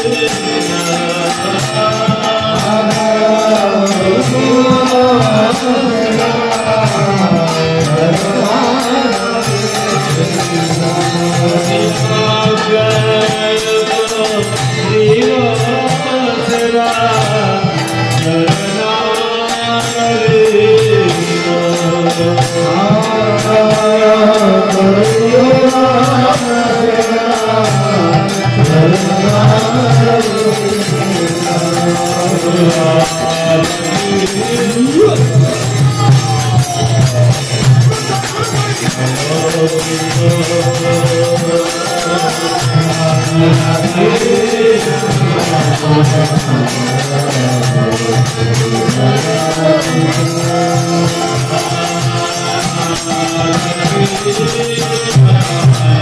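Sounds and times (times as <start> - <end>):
group singing a chant: 0.0 - 56.0
hand cymbals jingling: 0.0 - 56.0.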